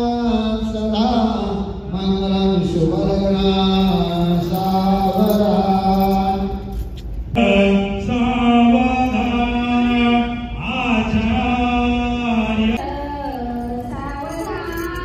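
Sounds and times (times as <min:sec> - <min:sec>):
man chanting: 0:00.0 - 0:06.7, 0:07.4 - 0:12.8.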